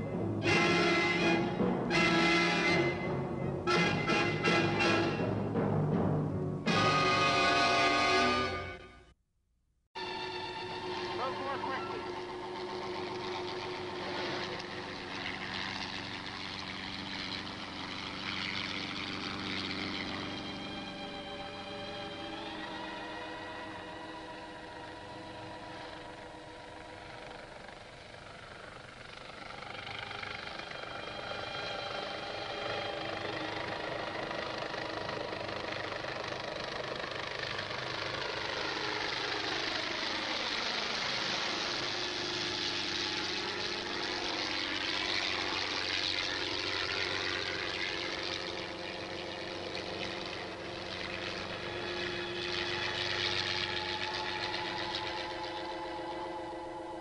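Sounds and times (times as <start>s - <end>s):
soundtrack drone with held tones: 0.0s - 5.7s, 6.6s - 9.2s, 10.0s - 57.0s.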